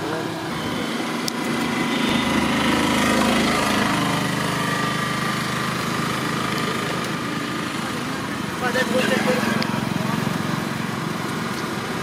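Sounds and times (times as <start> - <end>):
street noise: 0.0 - 12.0
small motor humming: 0.2 - 12.0.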